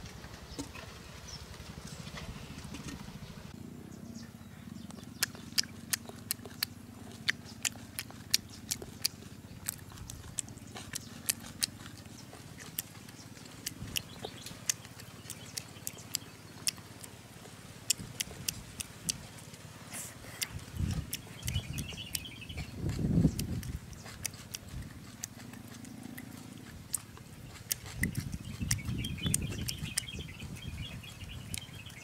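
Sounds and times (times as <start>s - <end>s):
crunchy chewing: 4.8s - 32.0s.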